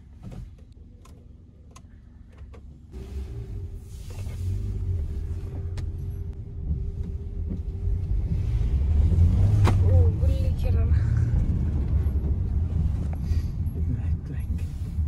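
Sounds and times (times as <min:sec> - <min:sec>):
car engine starting and running: 0:00.0 - 0:15.0.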